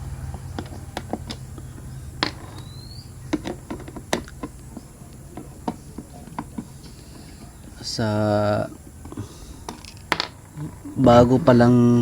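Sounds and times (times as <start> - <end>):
loose nuts rattling: 0.0 - 11.8
plastic and metal parts clicking: 0.3 - 11.2.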